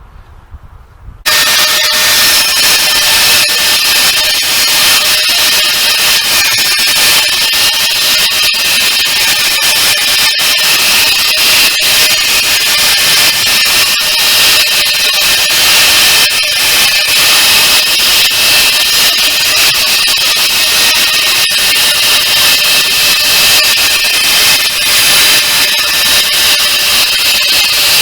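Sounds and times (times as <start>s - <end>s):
angle grinder grinding metal: 1.3s - 28.0s.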